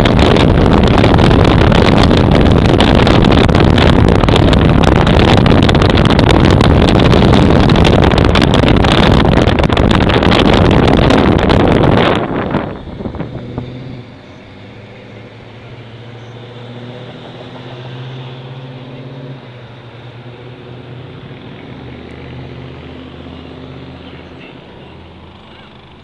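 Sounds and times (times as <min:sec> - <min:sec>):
car engine running at low revs: 0:00.0 - 0:26.0
street traffic noise: 0:00.0 - 0:26.0.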